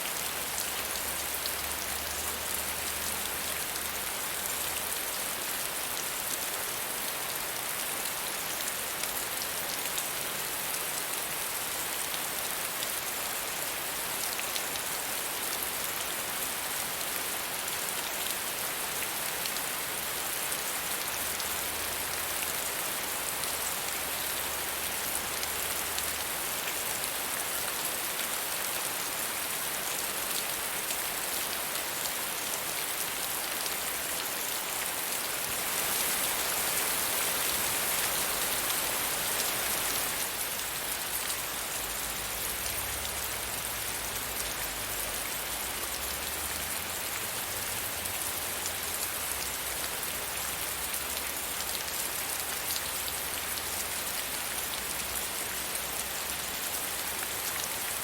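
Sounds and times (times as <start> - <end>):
soft rain pattering: 0.0 - 58.0.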